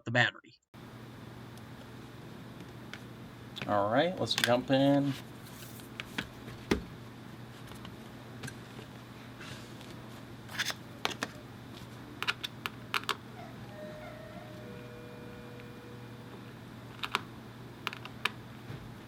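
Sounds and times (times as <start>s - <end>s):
low steady hum: 0.8s - 19.0s.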